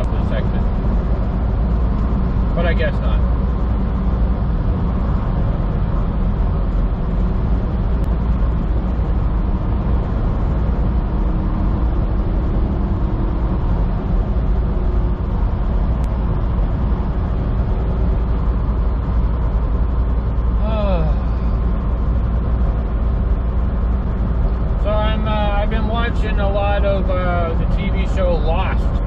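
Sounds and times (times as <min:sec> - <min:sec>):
truck engine drone: 0:00.0 - 0:29.0.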